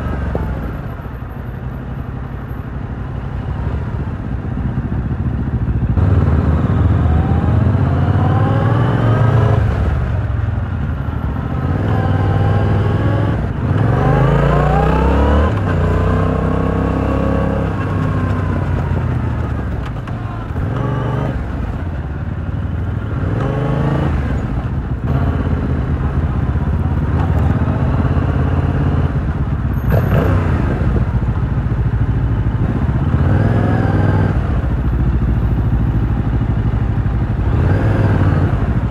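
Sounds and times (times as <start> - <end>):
motorcycle engine accelerating: 3.5 - 38.9.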